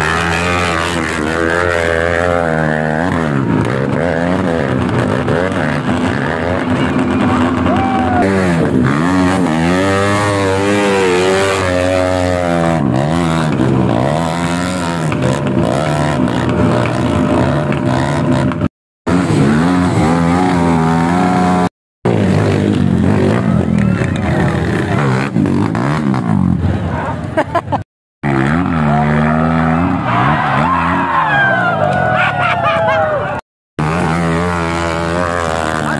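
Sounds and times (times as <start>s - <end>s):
dirt bike engine revving: 0.0s - 27.1s, 28.2s - 32.1s, 33.8s - 35.9s.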